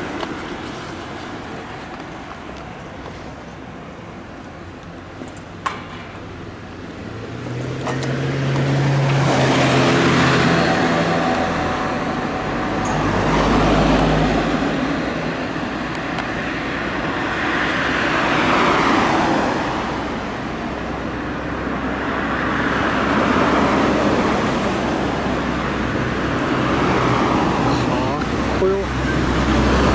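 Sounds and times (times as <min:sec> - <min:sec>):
cars passing: 0:00.0 - 0:29.9.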